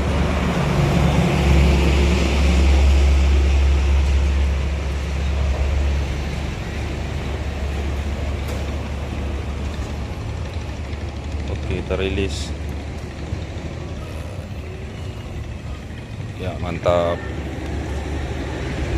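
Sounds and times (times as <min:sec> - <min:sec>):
vehicle rumbling over bridge: 0:00.0 - 0:18.9.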